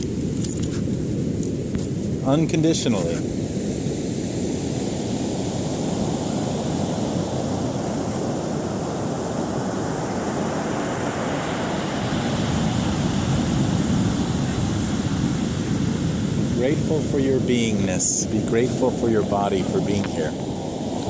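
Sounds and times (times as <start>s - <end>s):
ocean surf washing in: 0.0s - 21.0s
wind on microphone: 0.0s - 21.0s.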